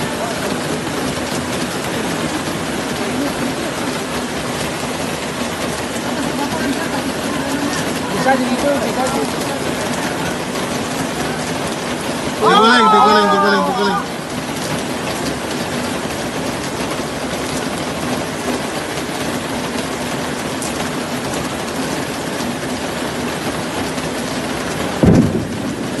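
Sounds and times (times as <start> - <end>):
heavy rain pouring: 0.0 - 26.0
running floodwater: 0.0 - 26.0.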